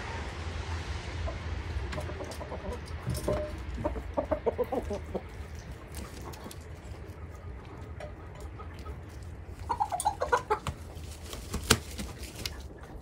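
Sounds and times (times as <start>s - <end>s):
hens clucking: 1.2s - 13.0s.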